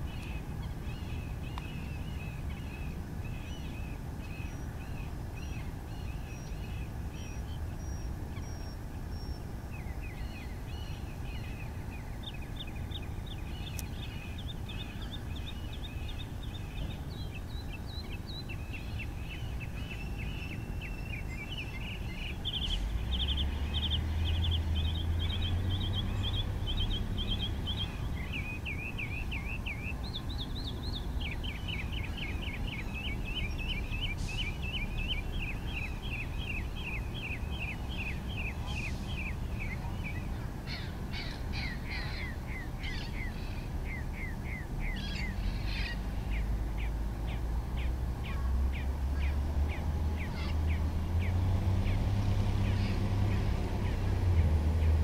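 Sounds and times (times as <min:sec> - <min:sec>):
birds calling and trilling: 0:00.0 - 0:55.0.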